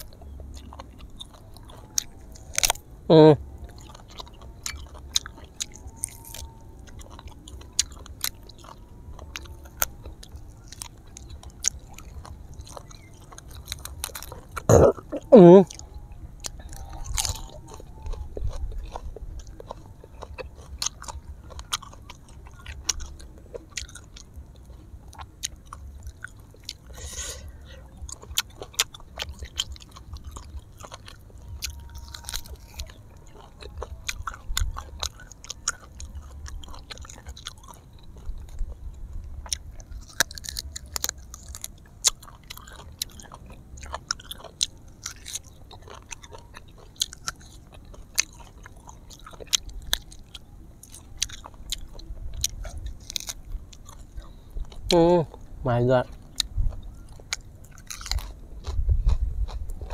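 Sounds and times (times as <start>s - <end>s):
person chewing and crunching: 0.0s - 59.9s.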